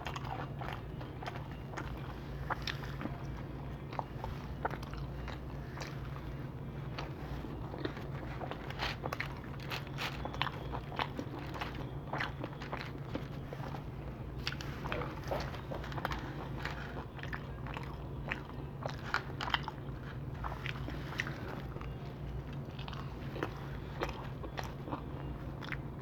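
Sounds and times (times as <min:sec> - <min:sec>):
person chewing crunchy food: 0:00.0 - 0:26.0
steady low hum: 0:00.0 - 0:26.0.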